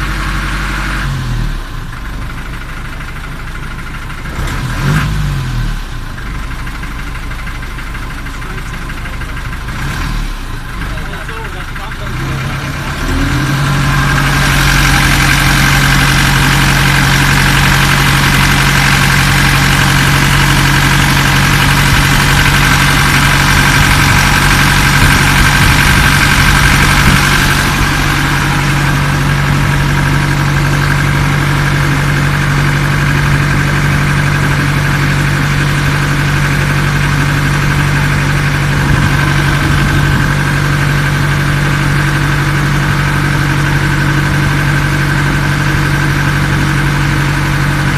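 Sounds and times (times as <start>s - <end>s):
ferry engine low hum: 0.0s - 47.9s.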